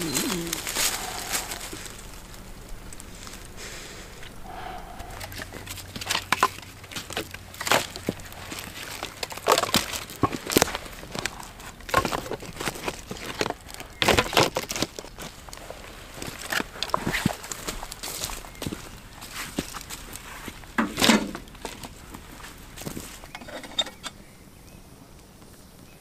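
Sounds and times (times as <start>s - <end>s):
footsteps crunching dry leaves: 0.0s - 23.3s.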